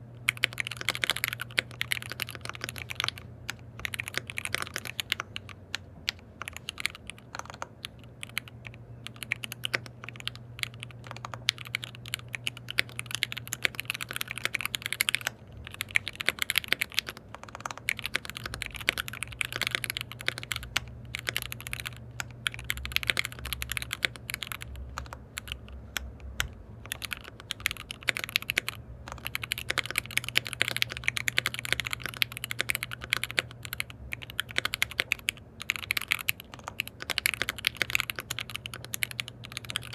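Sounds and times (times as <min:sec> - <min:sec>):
mechanical keyboard typing: 0:00.0 - 0:39.9
steady low hum: 0:00.0 - 0:39.9.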